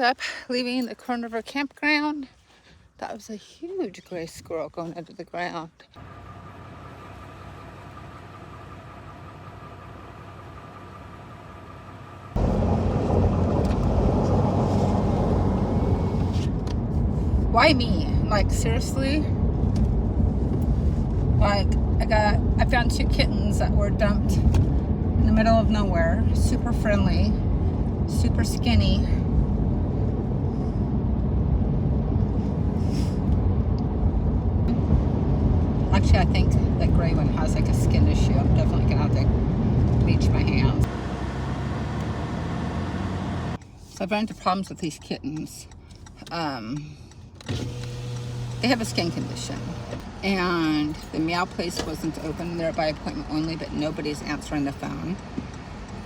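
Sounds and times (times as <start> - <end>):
faint vehicle hum: 0.0 - 56.0
low road rumble: 0.0 - 56.0.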